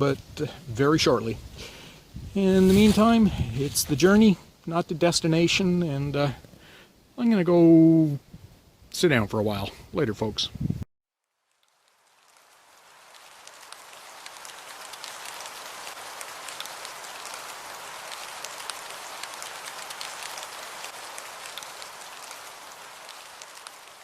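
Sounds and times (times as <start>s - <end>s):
steady rain with drop ticks: 0.0s - 8.2s, 11.2s - 24.0s.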